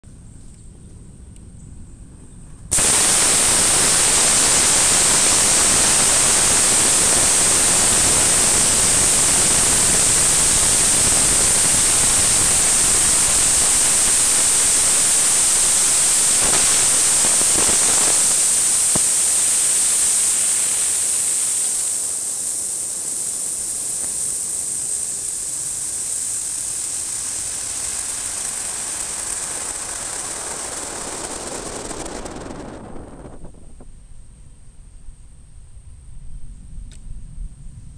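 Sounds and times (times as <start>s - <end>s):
rocket motor roaring: 2.7s - 33.9s.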